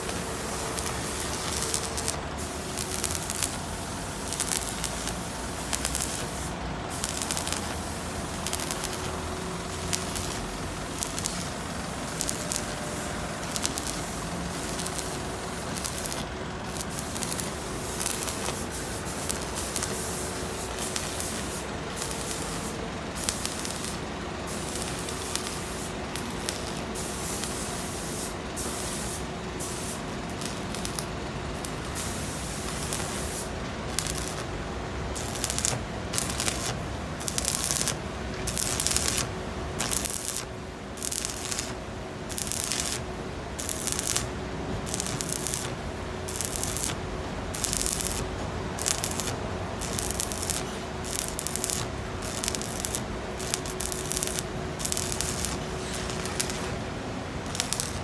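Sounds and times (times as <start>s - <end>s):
arc welding hiss: 0.0s - 58.0s.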